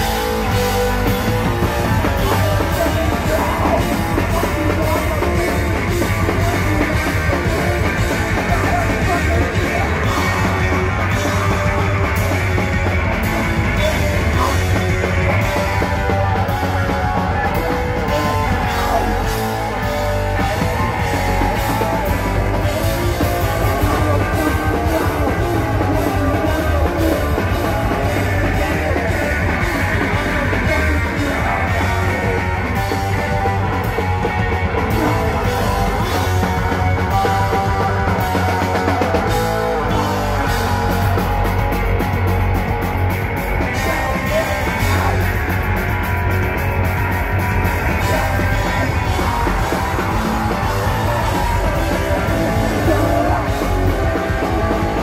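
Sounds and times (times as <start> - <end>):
bass guitar: 0.0 - 55.0
distorted electric guitar: 0.0 - 55.0
drum kit: 0.0 - 55.0.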